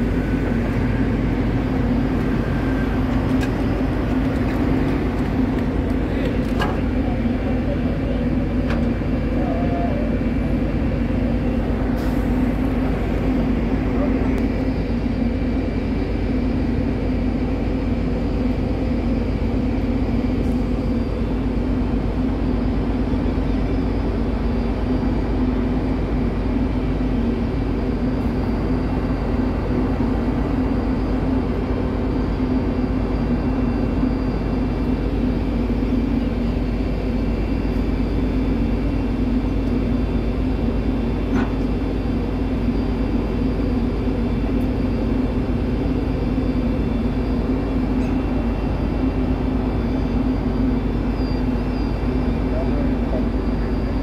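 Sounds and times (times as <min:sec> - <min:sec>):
ferry machinery drone: 0:00.0 - 0:54.0.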